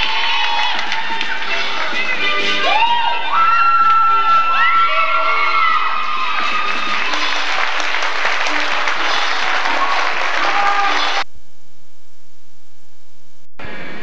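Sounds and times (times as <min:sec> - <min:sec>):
audience applauding and cheering: 0:00.0 - 0:11.2
music playing: 0:00.0 - 0:11.3.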